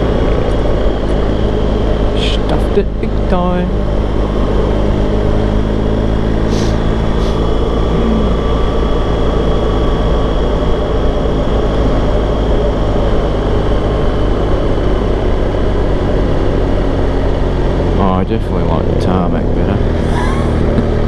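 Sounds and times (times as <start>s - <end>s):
motorcycle engine drone: 0.0s - 21.0s
road noise: 0.0s - 21.0s.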